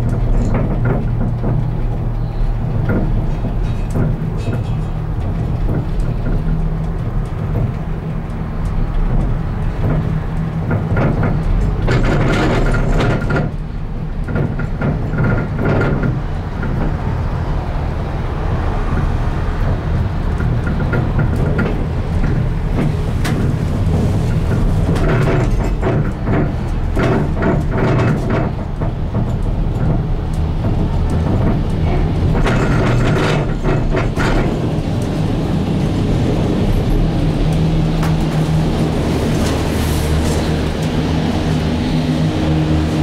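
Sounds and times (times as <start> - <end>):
clattering and rattling: 0.0 - 43.0
gondola low rumble: 0.0 - 43.0.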